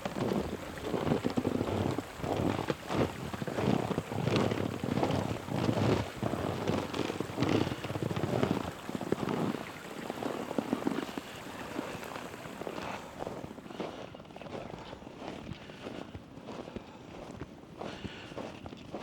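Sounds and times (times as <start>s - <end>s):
footsteps crunching through snow: 0.0s - 19.0s.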